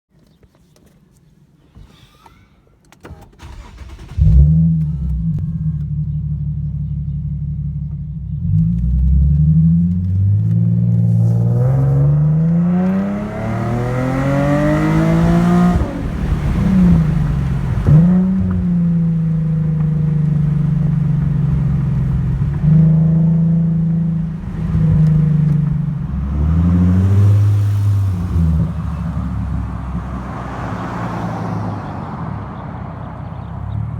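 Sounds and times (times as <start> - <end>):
car engine idling and revving: 3.1 - 33.9.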